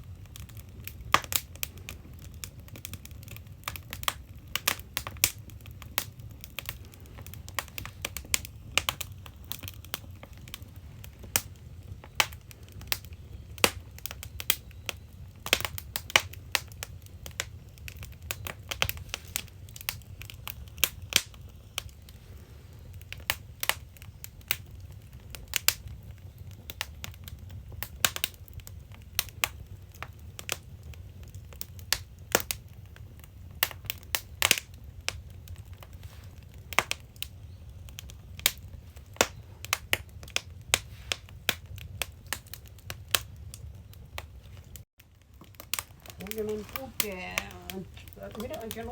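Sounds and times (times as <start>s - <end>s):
firewood crackling and popping: 0.0s - 48.9s.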